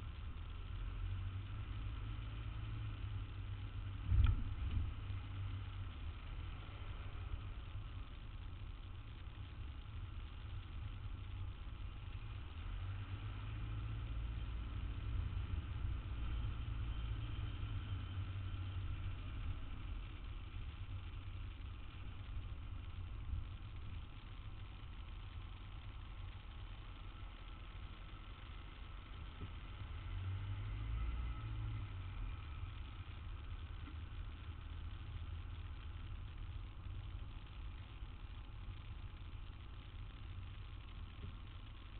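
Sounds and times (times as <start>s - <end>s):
street traffic rumble: 0.0s - 41.9s.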